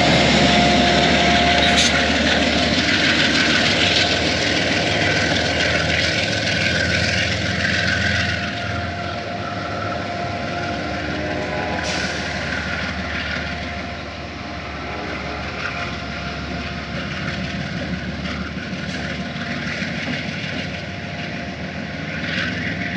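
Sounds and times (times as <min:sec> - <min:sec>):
passenger train rumbling past: 0:00.0 - 0:22.9.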